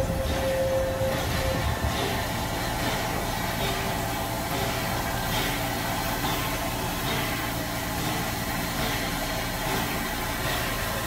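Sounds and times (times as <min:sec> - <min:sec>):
steam locomotive running slowly: 0:00.0 - 0:11.0.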